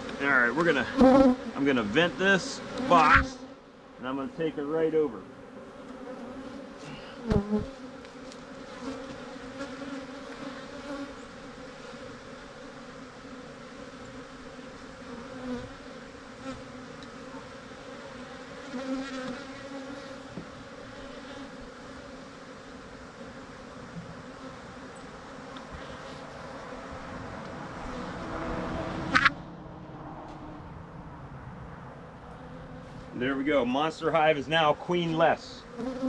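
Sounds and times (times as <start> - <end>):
bees buzzing: 0.0 - 29.4, 31.1 - 36.0.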